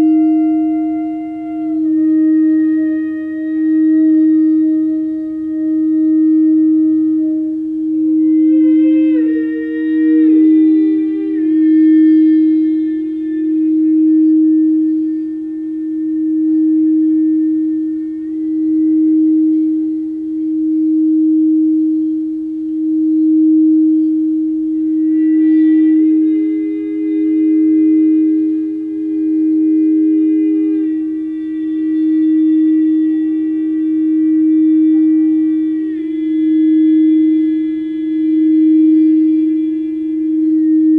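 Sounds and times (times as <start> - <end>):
higher singing bowl tone: 0.0 - 40.9
singing bowl ringing tone: 0.0 - 40.9.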